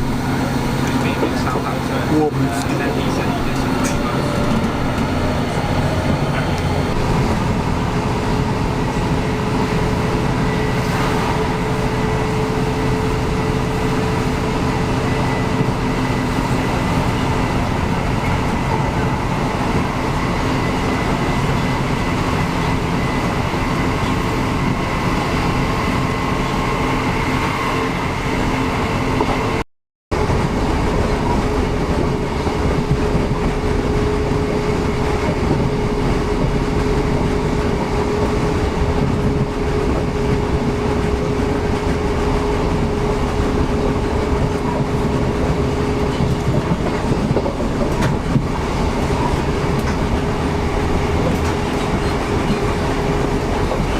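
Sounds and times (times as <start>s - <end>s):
train rumbling on track: 0.0s - 53.9s.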